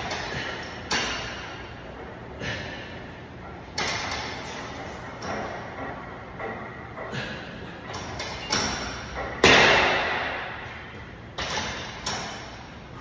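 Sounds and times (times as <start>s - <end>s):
gym weights thudding and clanking: 0.0s - 1.6s, 3.7s - 12.7s.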